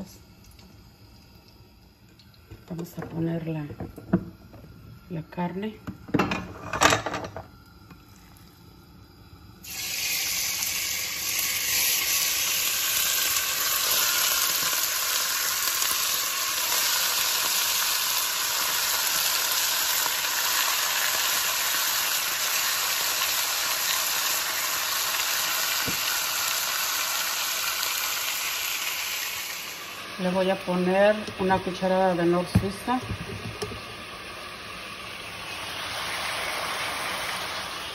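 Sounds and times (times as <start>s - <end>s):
meat sizzling in hot fat: 7.5s - 37.9s.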